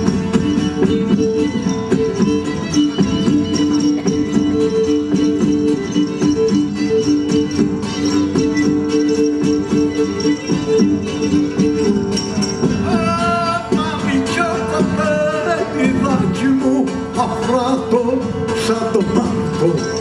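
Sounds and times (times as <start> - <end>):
bowed lyra melody: 0.0 - 20.0
frame drum beating: 0.0 - 20.0
lute strumming: 0.0 - 20.0.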